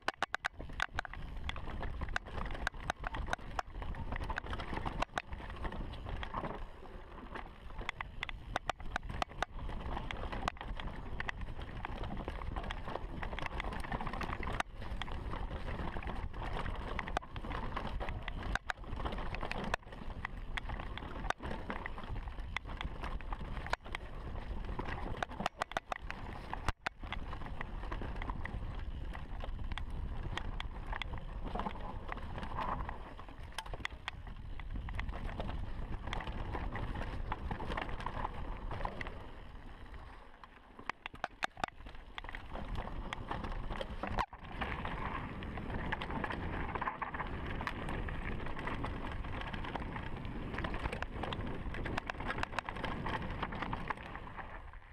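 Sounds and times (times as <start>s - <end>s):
sharp clicks and rattles: 0.0s - 6.6s, 7.7s - 39.3s, 40.4s - 54.4s
bike tyres rolling over trail: 0.0s - 54.9s.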